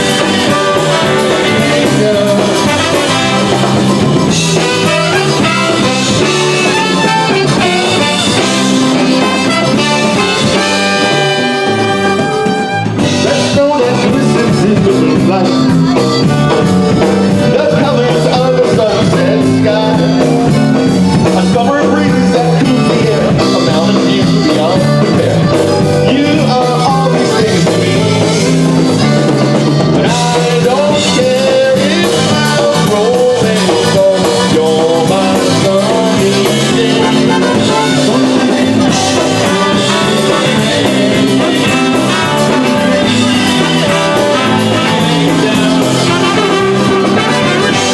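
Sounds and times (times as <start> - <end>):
person singing: 0.0 - 47.9
polka band playing: 0.0 - 47.9.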